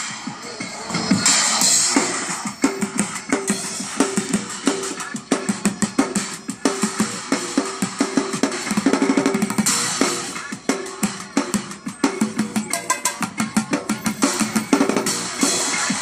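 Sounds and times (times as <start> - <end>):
bucket drumming fast rhythm: 0.4 - 16.0.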